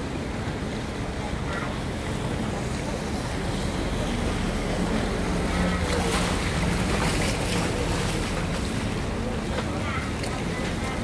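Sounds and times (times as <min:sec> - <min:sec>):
boat engines droning: 0:00.0 - 0:11.0
churning water: 0:00.0 - 0:11.0.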